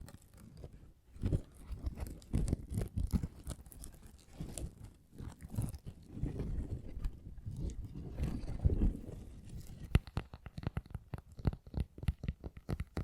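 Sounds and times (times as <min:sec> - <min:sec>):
fingertips tapping and scratching: 0:00.0 - 0:13.0.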